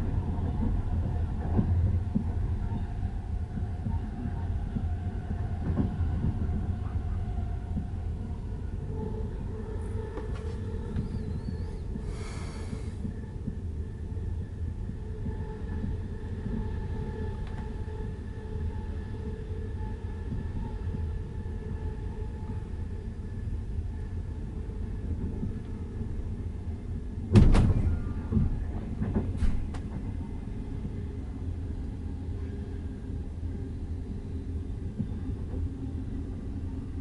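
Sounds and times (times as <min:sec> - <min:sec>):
train wheels rumbling on track: 0:00.0 - 0:18.3, 0:19.1 - 0:37.0.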